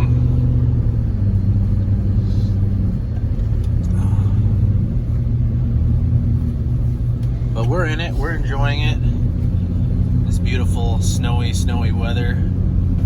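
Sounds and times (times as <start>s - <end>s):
car engine drone: 0.0s - 13.0s
tyre and road rumble: 0.0s - 13.0s.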